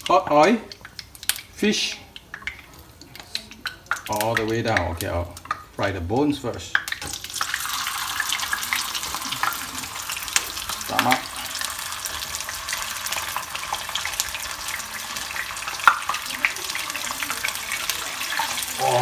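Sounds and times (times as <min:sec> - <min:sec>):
fish sizzling in hot oil: 0:00.0 - 0:19.0
oil popping: 0:00.0 - 0:19.0.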